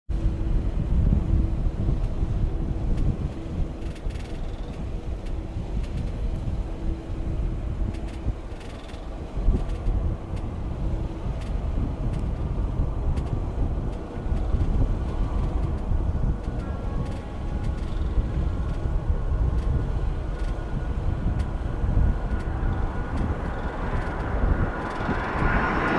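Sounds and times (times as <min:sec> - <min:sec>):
distant jet airliner engines: 0:00.1 - 0:25.9
steady hum: 0:00.1 - 0:25.9
wind rumble on microphone: 0:00.1 - 0:25.9.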